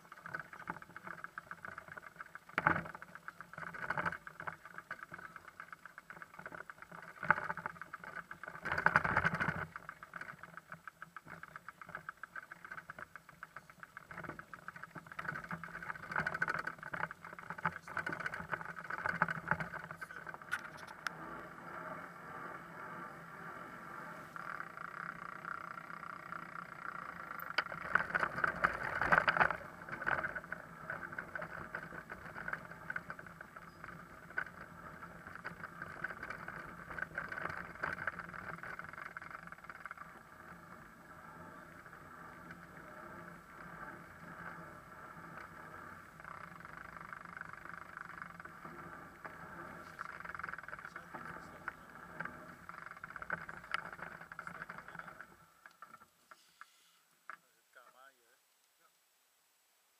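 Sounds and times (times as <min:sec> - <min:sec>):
bicycle rattling over cobblestones: 0:00.0 - 0:56.8.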